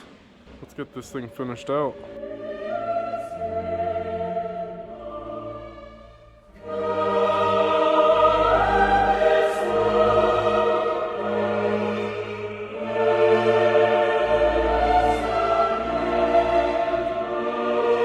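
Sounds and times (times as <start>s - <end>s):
choir and orchestra music: 0.0s - 18.0s.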